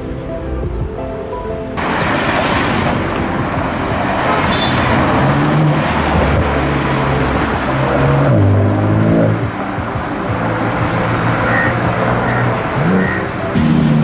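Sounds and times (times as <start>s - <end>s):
traffic rush: 0.0s - 14.0s
car engine revving close: 1.8s - 14.0s.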